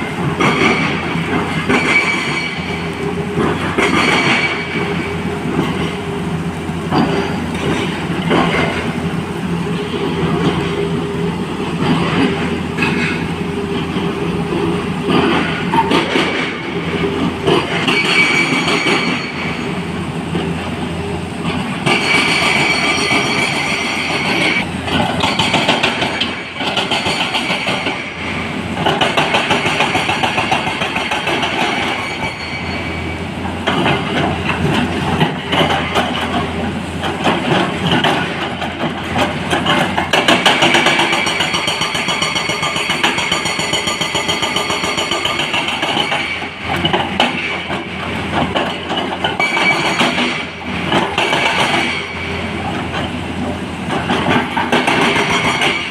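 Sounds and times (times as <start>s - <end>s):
excavator engine and hydraulics: 0.0s - 55.9s.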